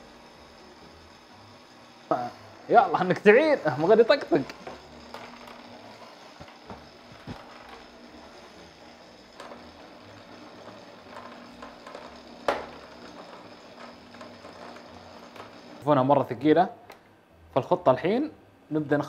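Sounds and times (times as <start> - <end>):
stand mixer kneading dough: 0.0 - 16.4.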